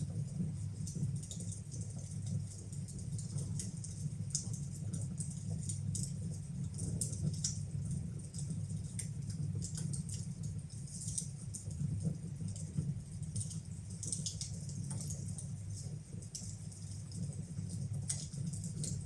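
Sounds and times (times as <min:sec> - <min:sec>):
low rumble of flames: 0:00.0 - 0:19.0
wood fire crackles and pops: 0:00.0 - 0:19.0.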